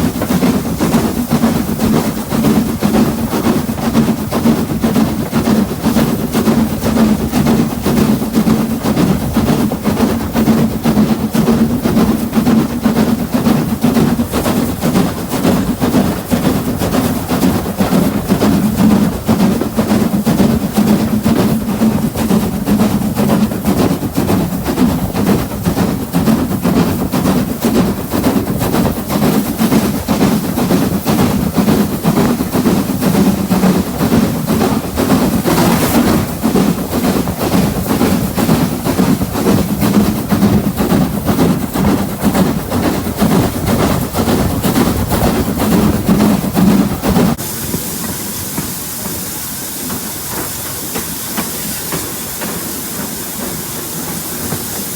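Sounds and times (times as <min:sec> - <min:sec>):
train rattling along tracks: 0:00.0 - 0:54.9.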